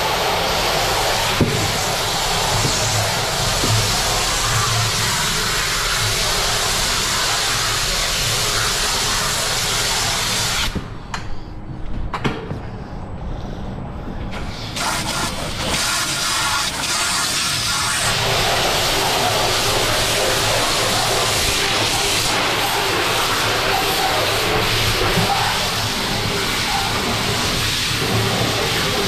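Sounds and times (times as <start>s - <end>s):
spray gun water jet hissing: 0.0s - 10.8s, 14.6s - 29.0s.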